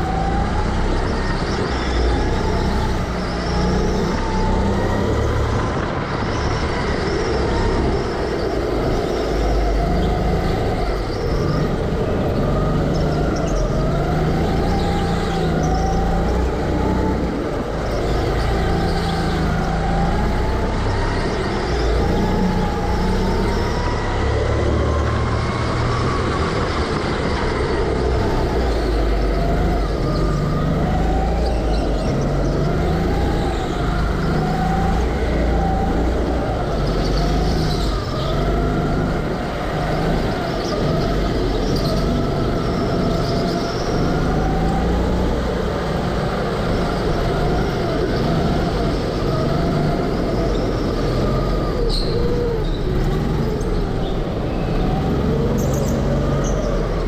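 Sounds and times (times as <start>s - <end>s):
go-kart motor revving: 0.0s - 57.0s.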